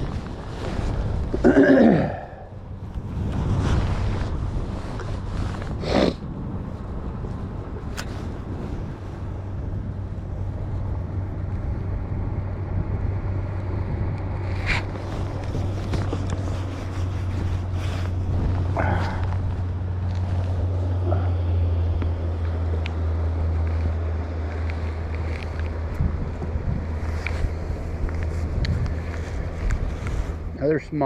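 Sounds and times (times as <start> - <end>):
boat motor humming: 0.0 - 31.0.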